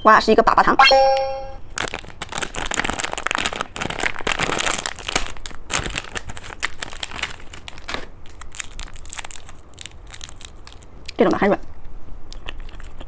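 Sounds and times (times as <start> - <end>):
candy wrapper crinkling: 1.7 - 11.6, 12.4 - 13.0.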